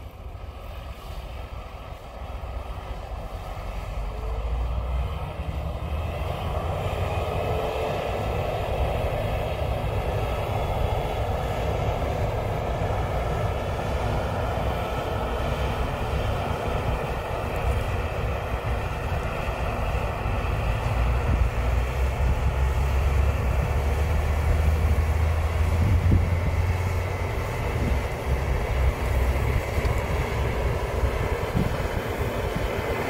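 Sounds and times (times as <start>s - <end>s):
combine harvester engine drone: 0.0s - 33.0s.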